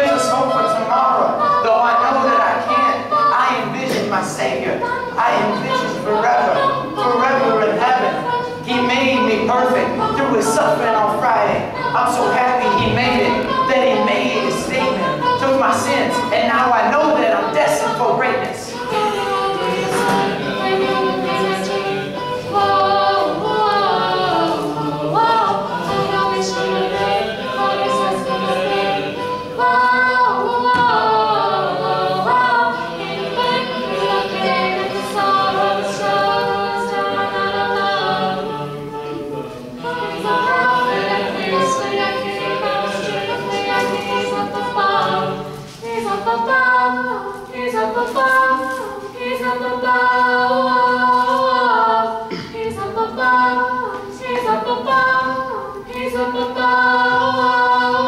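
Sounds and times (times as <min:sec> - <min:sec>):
a cappella group singing in harmony: 0:00.0 - 0:58.0.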